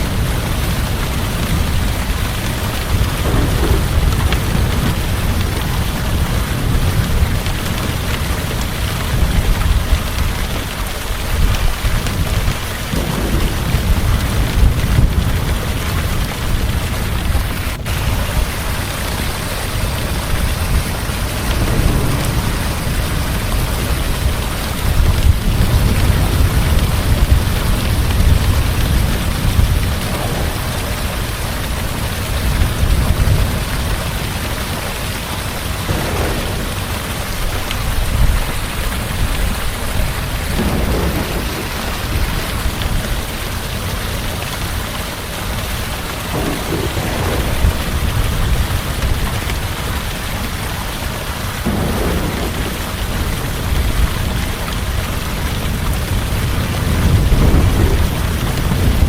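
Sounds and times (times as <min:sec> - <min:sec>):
heavy rain falling: 0:00.0 - 0:59.0
thunder rumbling: 0:00.0 - 0:59.0.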